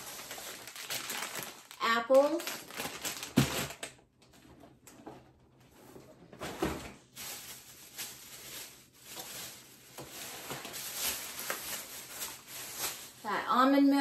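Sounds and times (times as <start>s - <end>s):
plastic bags rustling and crinkling: 0.0s - 4.0s, 5.7s - 13.8s.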